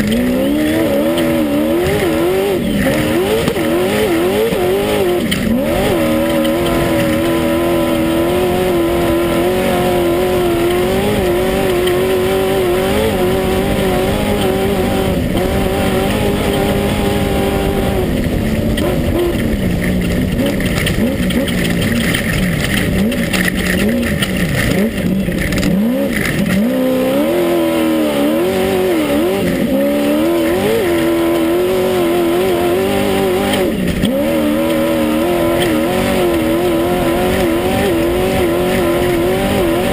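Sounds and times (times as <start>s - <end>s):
buggy engine revving hard: 0.0s - 39.9s.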